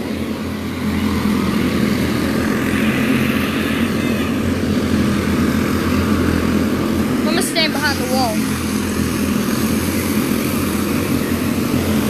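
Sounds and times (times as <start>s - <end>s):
small race car engines: 0.0s - 12.0s.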